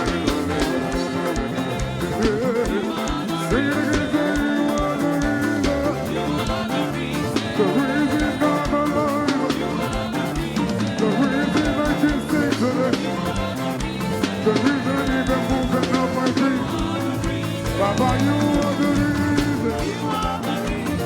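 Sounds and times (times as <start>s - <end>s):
band playing: 0.0s - 21.0s
drum kit: 0.0s - 21.0s.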